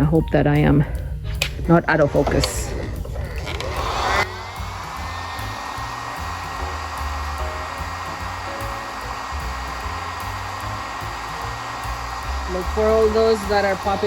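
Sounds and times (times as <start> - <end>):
heat gun blowing: 2.2 - 14.0.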